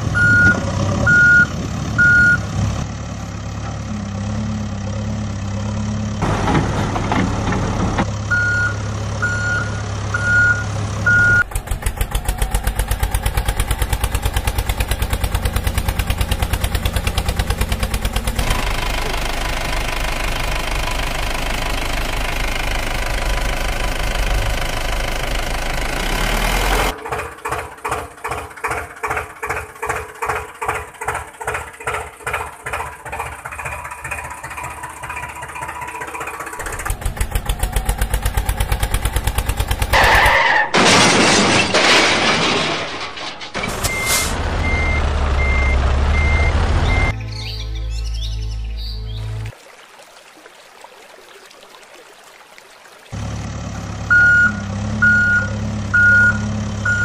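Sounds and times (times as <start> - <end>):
tractor engine chugging: 0.0 - 40.6, 43.8 - 47.2, 53.2 - 57.0.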